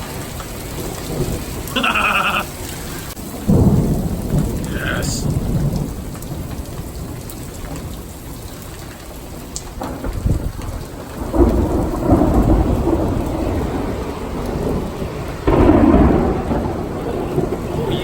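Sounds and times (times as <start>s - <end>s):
loud thunder clap: 0.0s - 8.1s, 9.6s - 18.0s
heavy rain pouring: 0.0s - 18.0s
thunder rumbling: 0.0s - 18.0s.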